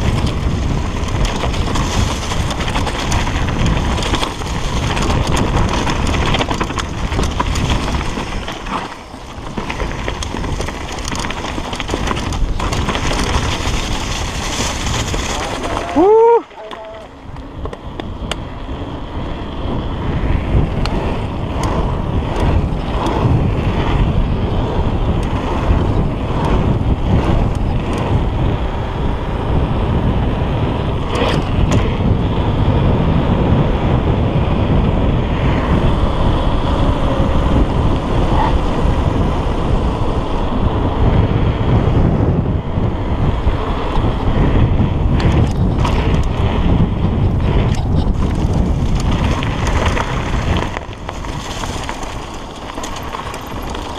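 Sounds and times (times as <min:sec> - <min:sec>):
bike clicks and rattles: 0:00.0 - 0:53.9
rumble of bike tyres: 0:00.0 - 0:53.9
wind buffeting microphone: 0:00.0 - 0:53.9.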